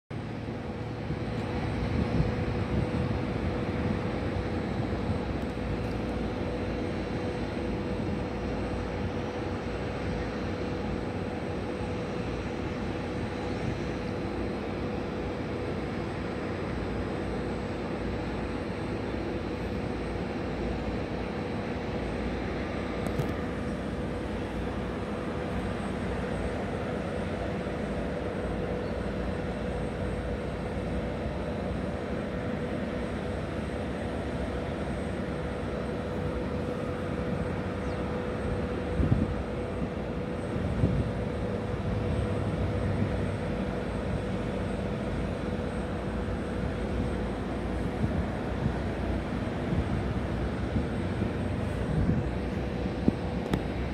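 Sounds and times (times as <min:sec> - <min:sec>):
distant jet engines rumbling: 0:00.1 - 0:53.9
faint steady hum: 0:00.1 - 0:53.9.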